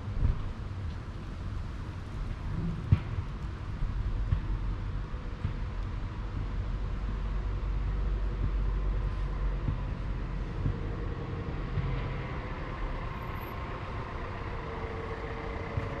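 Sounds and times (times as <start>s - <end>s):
faint engine hum: 0.0s - 16.0s
low rumble of traffic: 0.0s - 16.0s.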